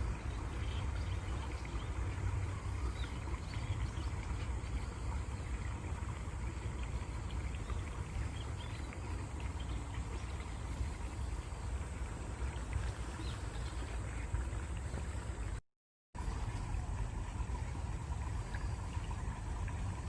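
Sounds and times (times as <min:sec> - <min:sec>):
stream water flowing: 0:00.0 - 0:15.6, 0:16.2 - 0:20.0.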